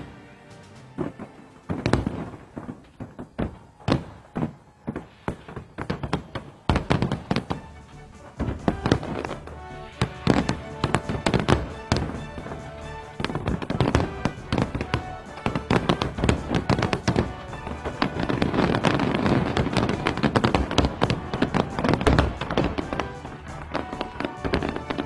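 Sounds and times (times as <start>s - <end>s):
music playing: 0.0s - 2.7s, 6.5s - 25.0s
fireworks bursting: 0.0s - 25.0s.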